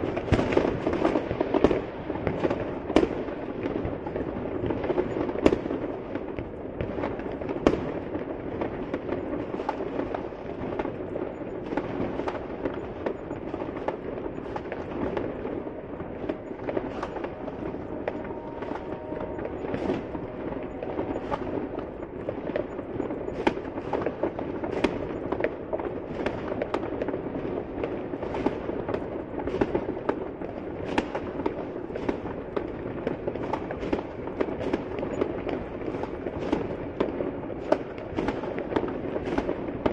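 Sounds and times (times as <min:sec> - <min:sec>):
distant fireworks crackling: 0:00.0 - 0:39.9
firework bangs and pops: 0:00.0 - 0:39.9.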